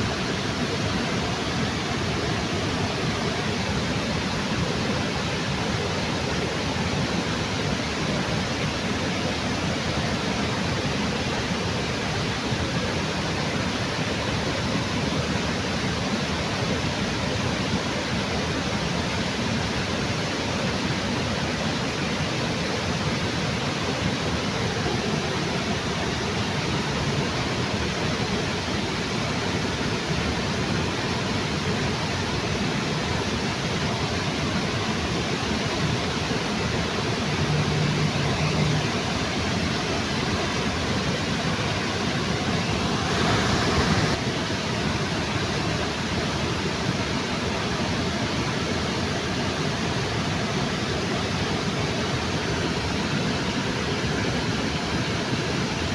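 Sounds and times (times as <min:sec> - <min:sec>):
water rushing over waterfall: 0:00.0 - 0:55.9.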